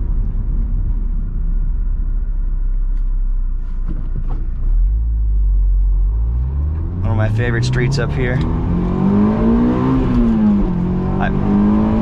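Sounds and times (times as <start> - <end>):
car engine: 0.0 - 12.0
road rumble inside car: 0.0 - 12.0.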